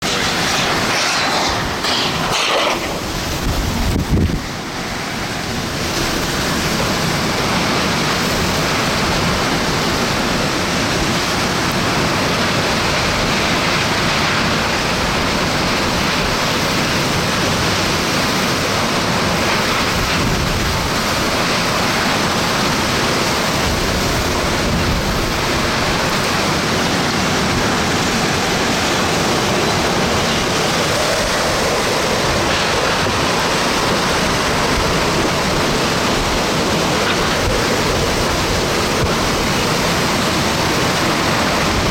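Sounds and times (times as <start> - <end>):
driving rain: 0.0 - 41.9
hurricane-force wind: 0.0 - 41.9.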